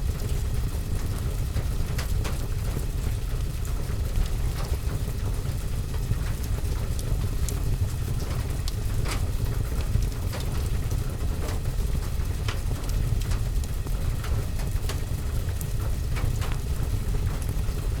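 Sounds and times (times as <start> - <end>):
rain on a window and roof: 0.0 - 18.0
wood fire crackling and popping: 1.9 - 18.0.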